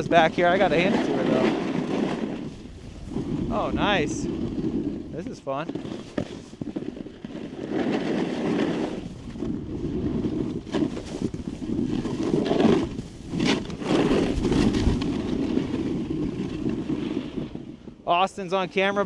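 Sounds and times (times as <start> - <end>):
wind on microphone: 0.0 - 18.1
snowboard edges scraping snow: 0.0 - 19.0.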